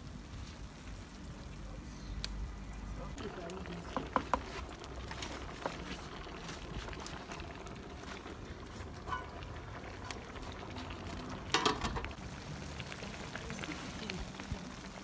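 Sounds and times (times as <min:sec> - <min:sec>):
pots of food boiling: 0:00.0 - 0:15.0
wood fire crackling: 0:00.0 - 0:15.0.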